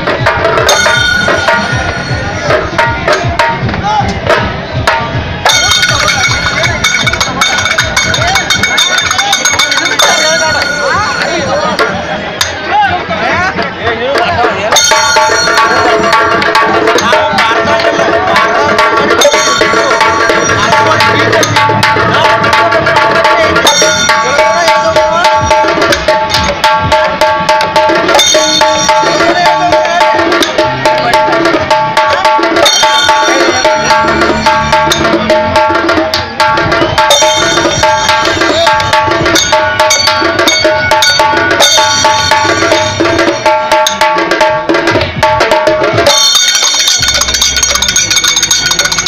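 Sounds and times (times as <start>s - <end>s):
drums beaten in fast rhythm: 0.0s - 49.0s
high melody line: 0.5s - 3.7s, 4.5s - 12.2s, 14.7s - 44.7s, 45.3s - 49.0s.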